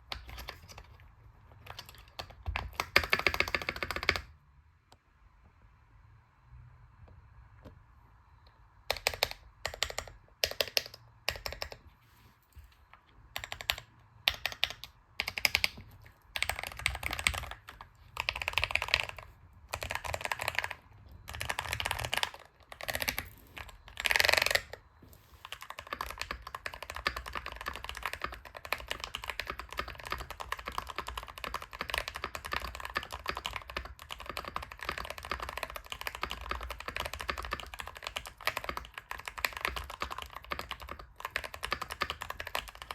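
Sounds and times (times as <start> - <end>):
mechanical keyboard typing: 0.0 - 4.3, 8.8 - 11.9, 13.3 - 42.9.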